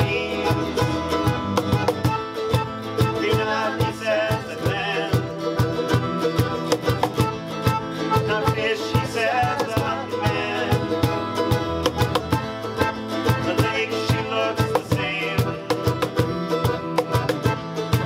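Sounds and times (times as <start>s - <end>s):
accordion: 0.0s - 18.0s
acoustic guitar: 0.0s - 18.0s
electric bass: 0.0s - 18.0s
strummed string instrument: 0.0s - 18.0s.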